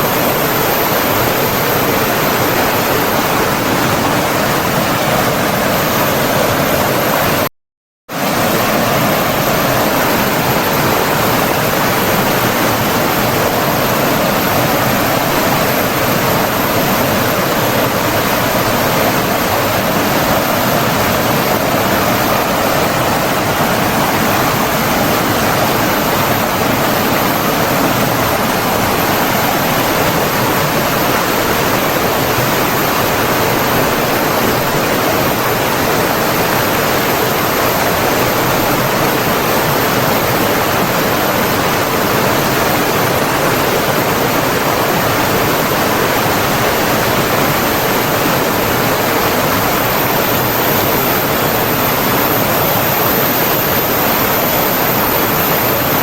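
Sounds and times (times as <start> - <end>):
stream water rushing: 0.0 - 7.4, 8.2 - 56.0.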